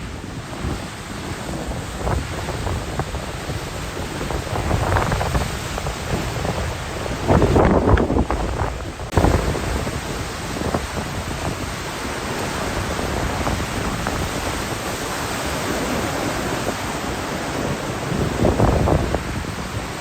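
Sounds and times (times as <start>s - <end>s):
rough surf roaring: 0.0s - 20.0s
strong wind: 0.0s - 20.0s.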